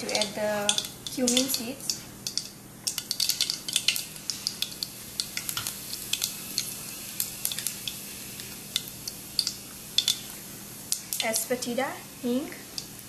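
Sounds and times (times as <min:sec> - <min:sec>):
mustard seeds popping: 0:00.0 - 0:11.6
seeds sizzling in hot oil: 0:00.0 - 0:13.0.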